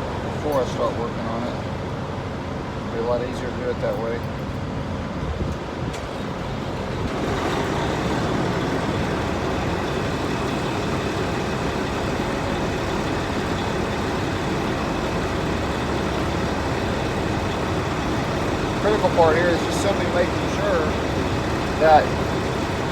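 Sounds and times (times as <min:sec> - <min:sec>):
heavy vehicle engine idling: 0:00.0 - 0:22.9.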